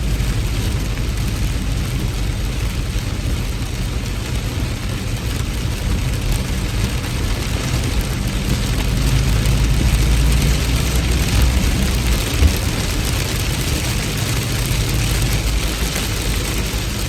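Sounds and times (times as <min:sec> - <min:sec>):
deep rumble: 0:00.0 - 0:17.0
heavy rain falling: 0:00.0 - 0:17.0.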